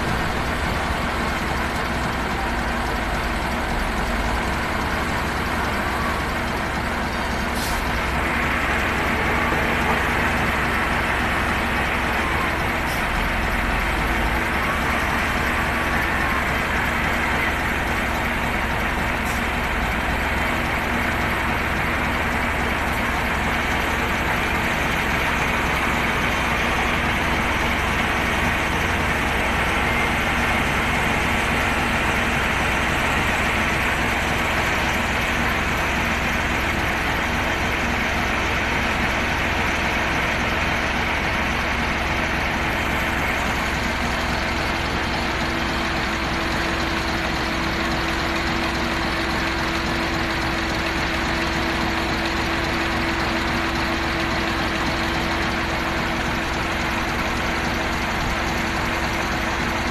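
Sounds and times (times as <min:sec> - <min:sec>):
wheel loader diesel engine running: 0:00.0 - 0:59.9.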